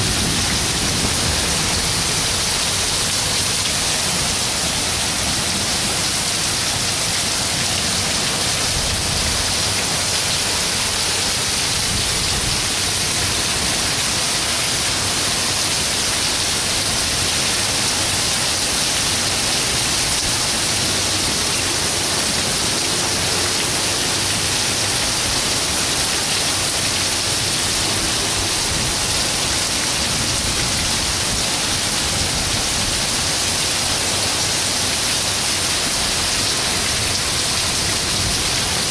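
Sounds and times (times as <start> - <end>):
heavy rain on pavement and cars: 0.0 - 38.9.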